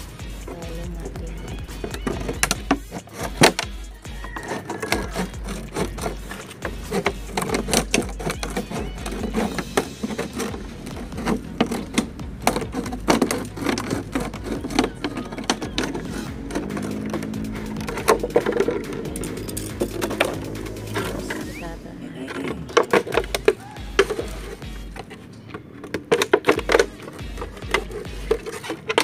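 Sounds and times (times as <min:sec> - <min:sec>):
background music: 0:00.0 - 0:29.0
scissors cutting plastic: 0:01.2 - 0:21.6, 0:22.3 - 0:29.0.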